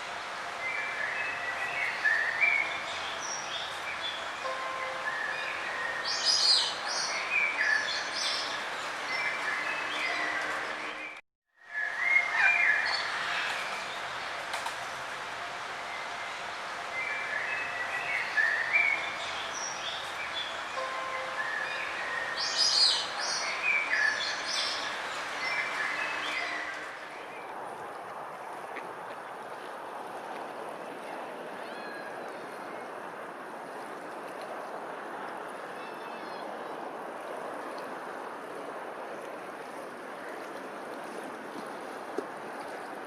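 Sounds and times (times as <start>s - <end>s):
running water: 0.0s - 43.0s.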